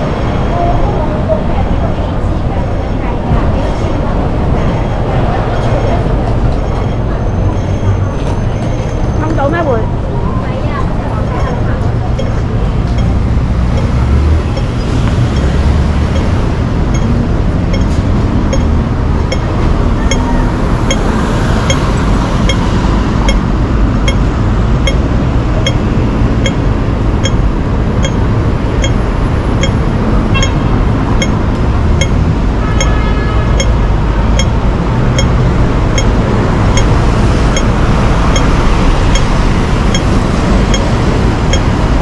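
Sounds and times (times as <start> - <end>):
street traffic rumble: 0.0 - 42.0
crossing signal ticking: 4.6 - 9.9, 11.0 - 42.0.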